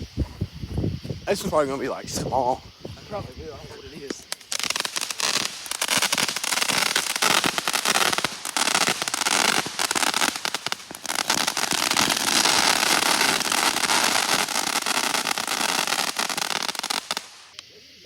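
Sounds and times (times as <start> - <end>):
firework hissing and crackling: 0.0 - 17.6.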